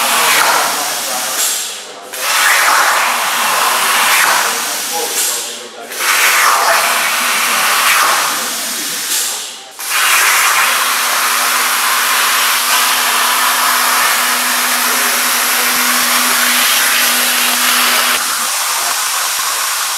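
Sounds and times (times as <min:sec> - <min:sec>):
plasma torch hissing: 0:00.0 - 0:19.9.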